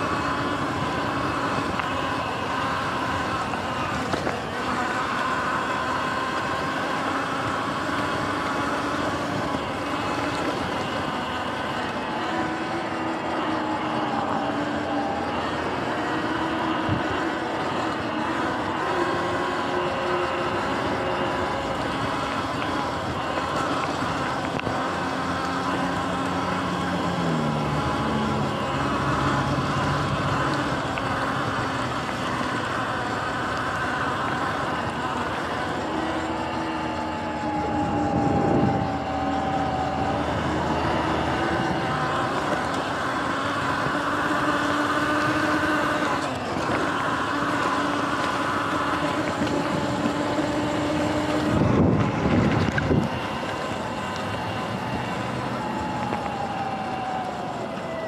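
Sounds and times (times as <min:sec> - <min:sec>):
electric motor whining: 0:00.0 - 0:58.0
steady rushing noise: 0:00.0 - 0:58.0.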